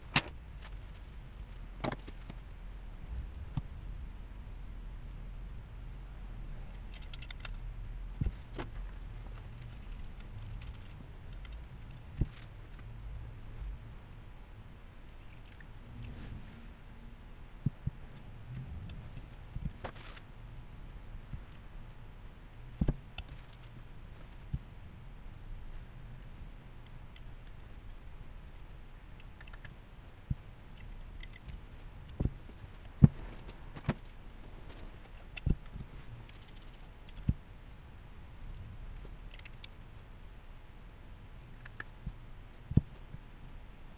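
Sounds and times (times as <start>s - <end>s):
low hum and faint hiss: 0.0s - 43.9s.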